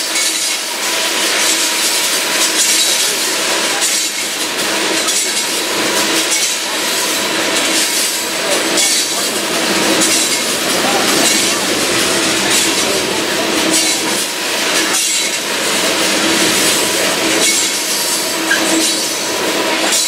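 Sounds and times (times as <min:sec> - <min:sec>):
train wheels on rails: 0:00.0 - 0:20.0.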